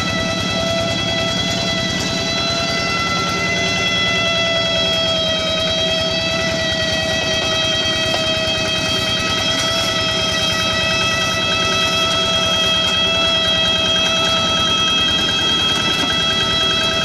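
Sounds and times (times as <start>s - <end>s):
high-pitched engine whine: 0.0s - 17.0s
tractor engine running: 0.0s - 17.0s.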